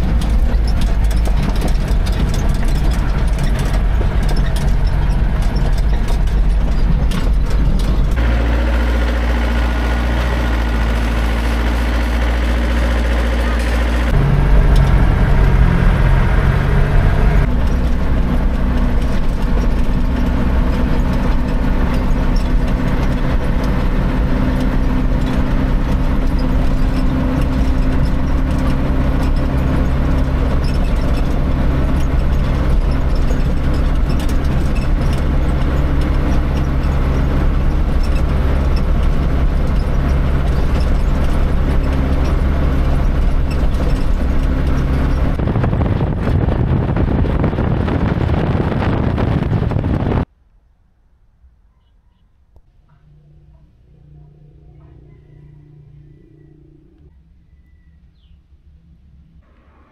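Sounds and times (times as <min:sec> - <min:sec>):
truck engine running: 0:00.0 - 0:50.3.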